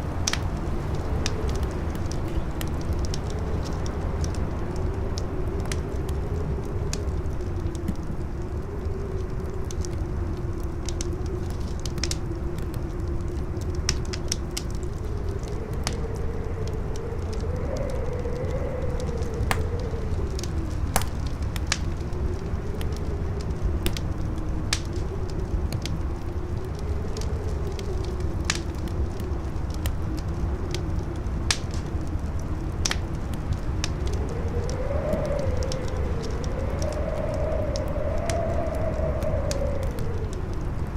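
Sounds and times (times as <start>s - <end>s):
campfire crackling: 0.0s - 40.9s
strong howling wind: 0.0s - 40.9s.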